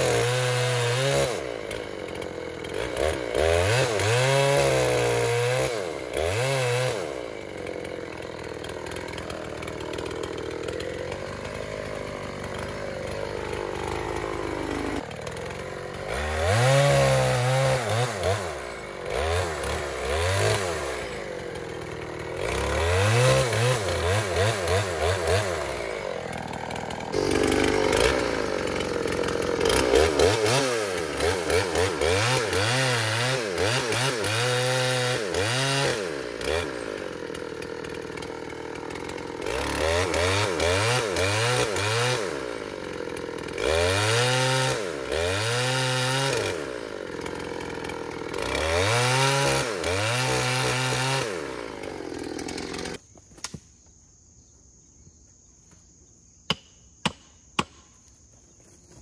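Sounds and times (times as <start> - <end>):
chainsaw revving cutting wood: 0.0 - 53.0.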